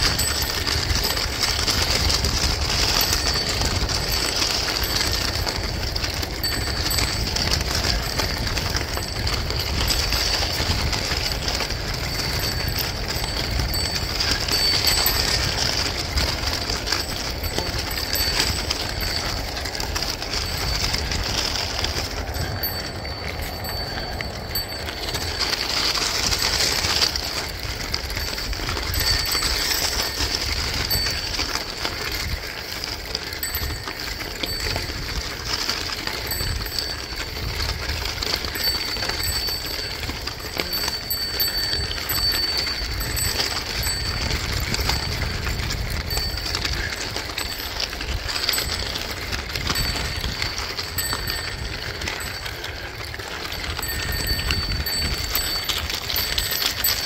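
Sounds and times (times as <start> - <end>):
bicycle tyres crunching gravel: 0.0 - 57.0
wind rumble on microphone: 0.0 - 57.0.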